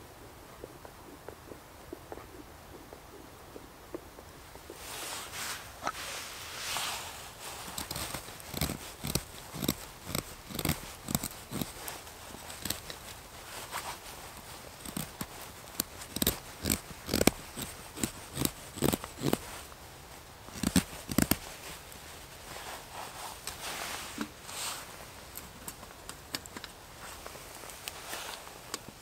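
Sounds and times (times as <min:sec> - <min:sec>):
twigs rustling: 0:04.8 - 0:29.0.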